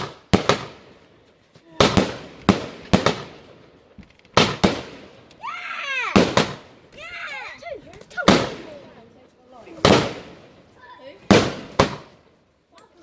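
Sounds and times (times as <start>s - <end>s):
fireworks bangs: 0.0s - 12.5s.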